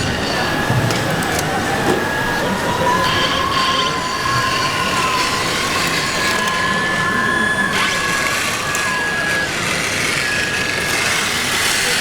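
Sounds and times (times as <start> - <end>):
electric motors and hydraulic pumps whining: 0.0 - 12.0
noisy background: 0.0 - 12.0
thin high whines bending in pitch: 0.0 - 12.0.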